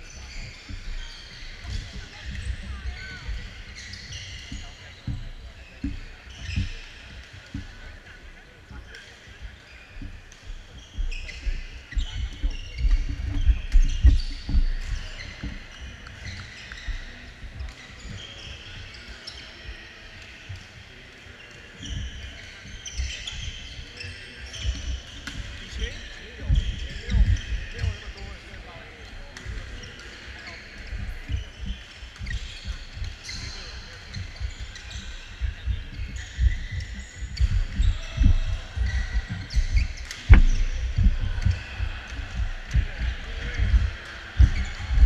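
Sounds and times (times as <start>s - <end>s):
sneakers squeaking on hardwood: 0.0s - 7.9s, 9.6s - 20.6s, 21.8s - 28.5s, 29.1s - 45.0s.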